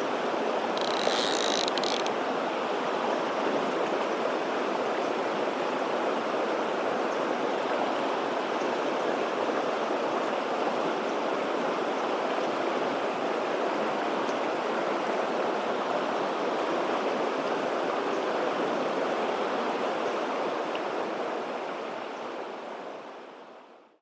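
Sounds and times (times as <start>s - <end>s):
stream water rushing: 0.0s - 23.8s.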